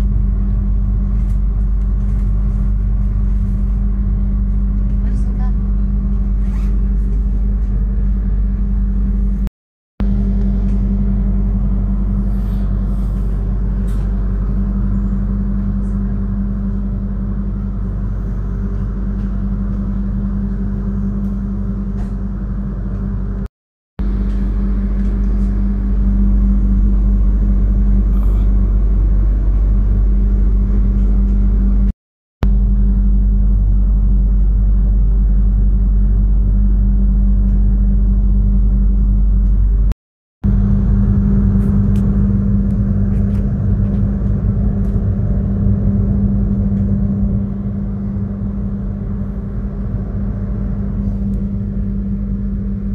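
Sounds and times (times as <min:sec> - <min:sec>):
train carriage hum and rumble: 0:00.0 - 0:52.9.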